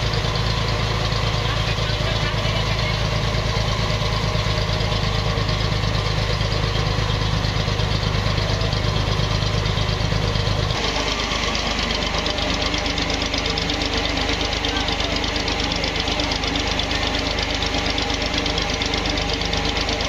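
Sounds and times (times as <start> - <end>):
deep machine hum: 0.0 - 20.0
higher machine rattle: 0.0 - 20.0
mill machinery din: 0.0 - 20.0.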